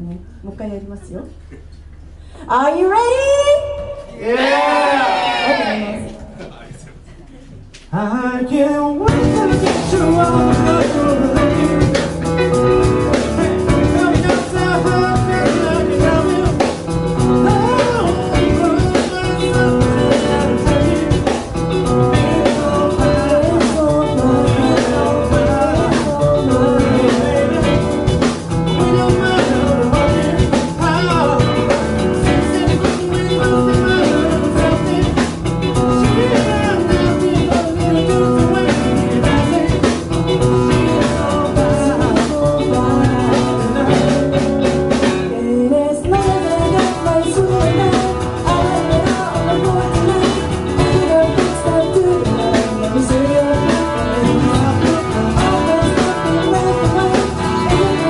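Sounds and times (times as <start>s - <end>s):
person singing: 7.9s - 44.6s, 45.2s - 58.0s
live band playing: 9.0s - 58.0s.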